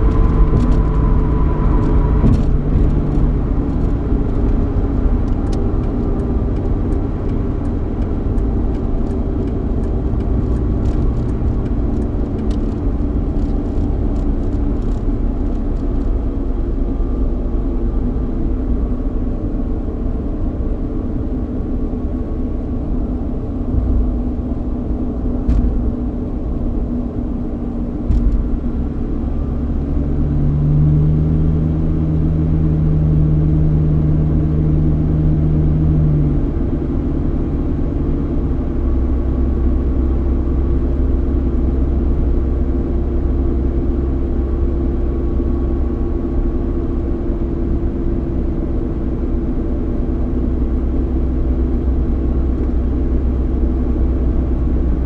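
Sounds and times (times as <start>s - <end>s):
car engine hum: 0.0s - 55.0s
low road rumble: 0.0s - 55.0s.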